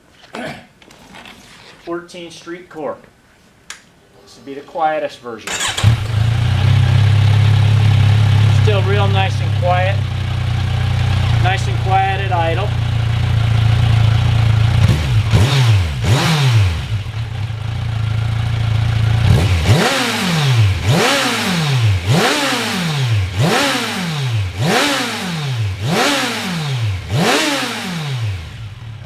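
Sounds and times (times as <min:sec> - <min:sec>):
motorcycle engine revving: 0:05.5 - 0:29.0.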